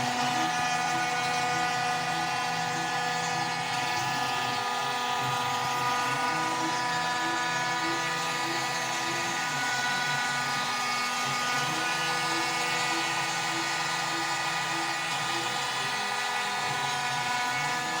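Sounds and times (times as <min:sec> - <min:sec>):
cnc spindle motor whine: 0:00.0 - 0:18.0.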